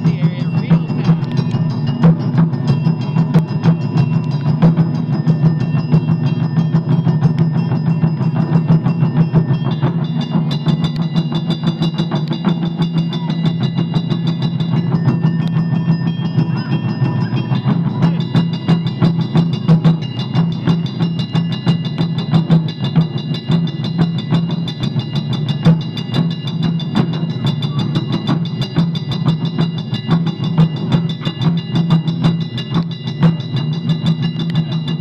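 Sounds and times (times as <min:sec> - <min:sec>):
high ringing tones: 0:00.0 - 0:35.0
taiko drums fast rhythm: 0:00.0 - 0:35.0.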